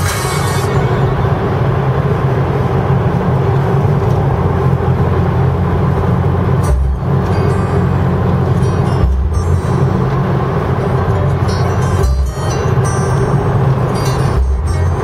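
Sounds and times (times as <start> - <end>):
car engine drone: 0.0 - 15.0.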